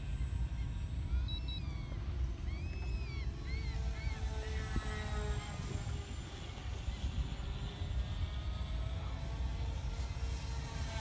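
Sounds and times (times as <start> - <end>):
rc plane motor whine: 0.0 - 11.0
wind rumbling on microphone: 1.8 - 11.0.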